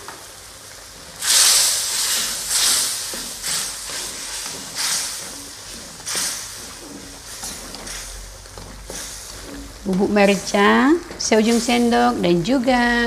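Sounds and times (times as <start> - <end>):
sauce sizzling in a wok: 0.0 - 13.0
spatula stirring: 1.2 - 12.9.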